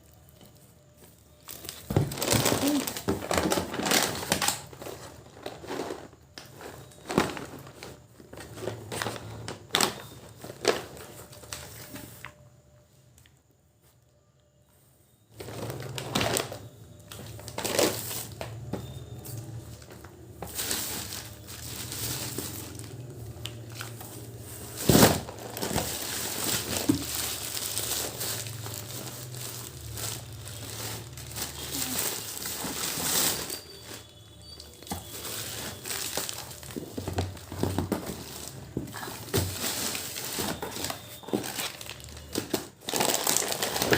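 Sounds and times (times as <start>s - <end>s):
packaging crinkling and rustling: 0.0s - 12.5s, 15.3s - 43.9s.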